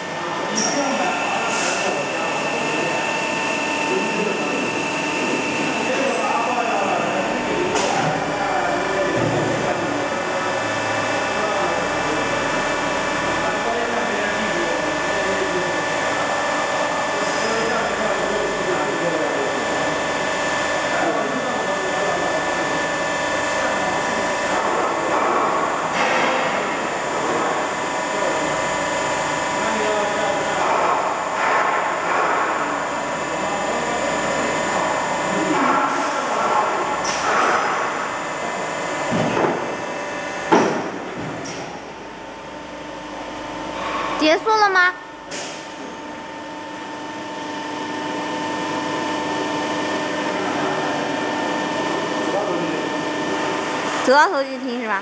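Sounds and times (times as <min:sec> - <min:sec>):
welding machine hum: 0:00.0 - 0:55.0.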